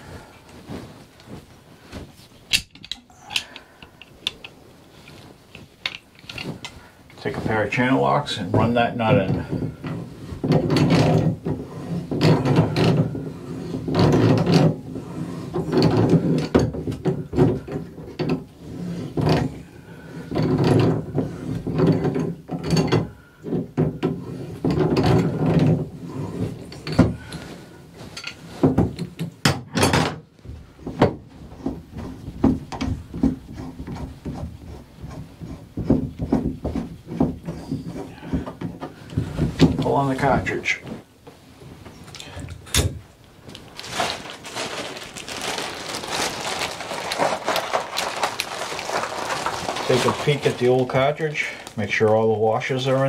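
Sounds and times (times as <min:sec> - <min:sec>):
metal creaking and scraping: 0:00.0 - 0:53.0.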